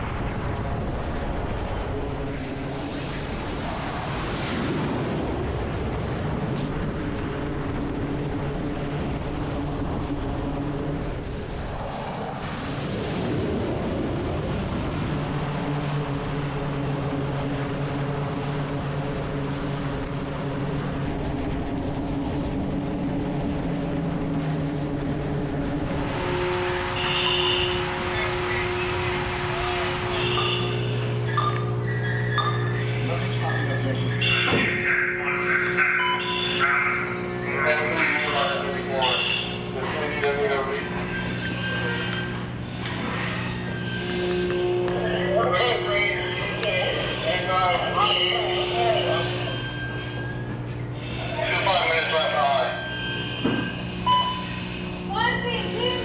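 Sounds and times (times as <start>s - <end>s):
aircraft engines droning: 0.0s - 56.0s
engine whining: 0.0s - 56.0s.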